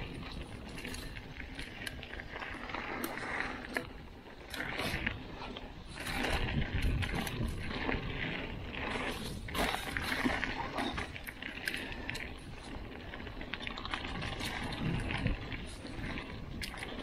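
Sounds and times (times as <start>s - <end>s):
bike clicks and rattles: 0.0s - 17.0s
bike tyres on dirt and leaves: 0.0s - 17.0s
wind rumbling on microphone: 0.0s - 17.0s.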